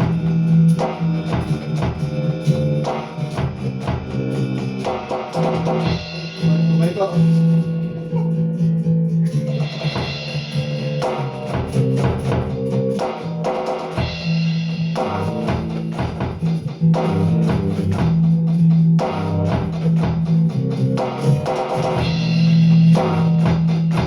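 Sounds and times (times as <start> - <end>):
electric bass low notes: 0.0 - 24.0
guitar: 0.0 - 24.0
steady drum beat: 0.0 - 24.0.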